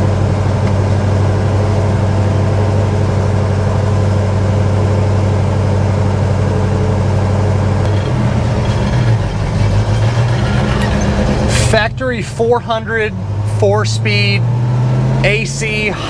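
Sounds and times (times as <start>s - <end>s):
car engine exhaust note: 0.0s - 16.0s.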